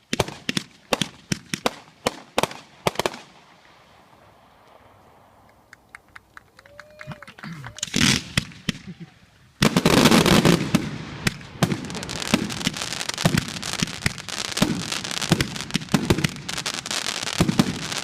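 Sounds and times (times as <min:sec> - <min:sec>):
firework pops and crackling: 0:00.0 - 0:18.0.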